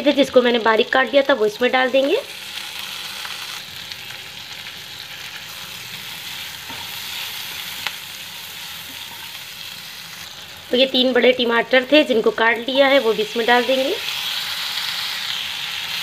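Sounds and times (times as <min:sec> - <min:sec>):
spices sizzling in a pan: 0:00.0 - 0:16.0.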